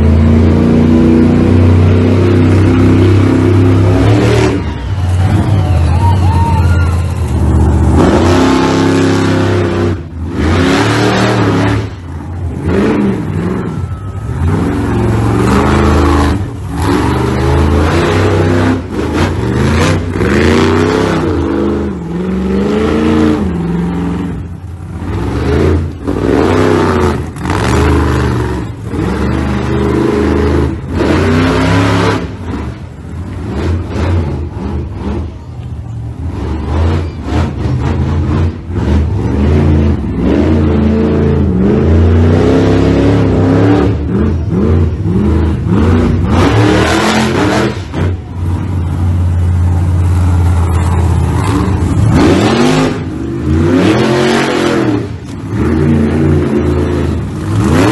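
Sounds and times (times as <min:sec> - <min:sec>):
truck engines revving: 0:00.0 - 0:57.9.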